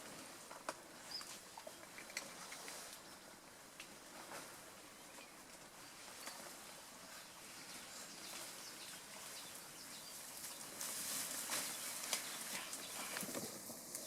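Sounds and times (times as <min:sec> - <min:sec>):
vegetation rustles and crackles: 0:00.0 - 0:14.0
faint bird or insect calls: 0:01.0 - 0:03.7, 0:04.4 - 0:13.6.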